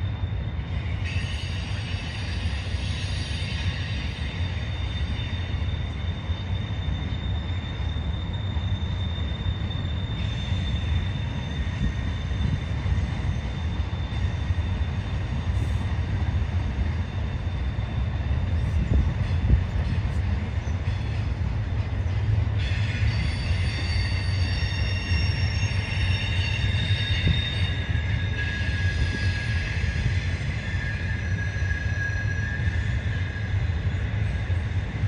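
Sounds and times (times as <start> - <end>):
freight train wheels rumbling: 0.0 - 35.0
high wheel squeal: 0.0 - 35.0.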